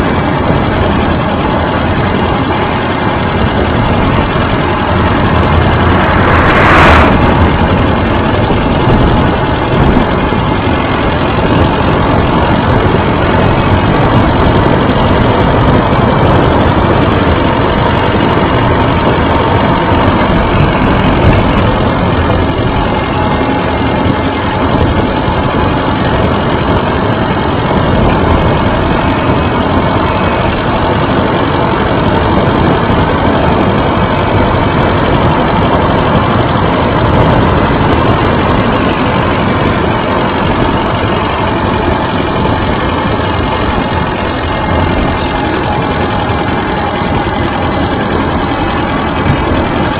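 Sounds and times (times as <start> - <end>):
bicycle rolling over rough asphalt: 0.0 - 49.9.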